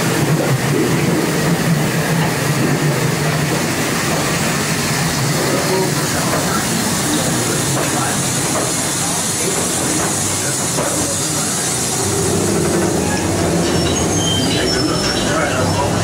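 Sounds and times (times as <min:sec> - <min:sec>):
steam hiss: 0:00.0 - 0:15.1.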